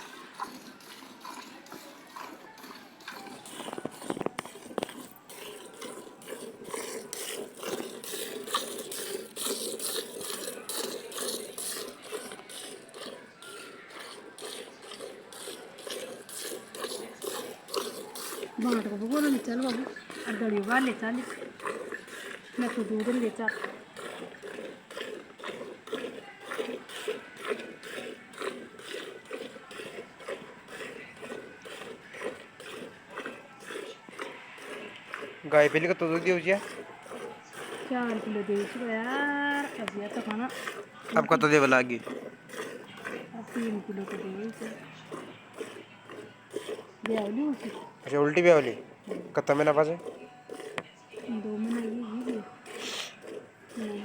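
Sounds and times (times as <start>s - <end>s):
milk squirting into a pail: 0.0s - 54.0s.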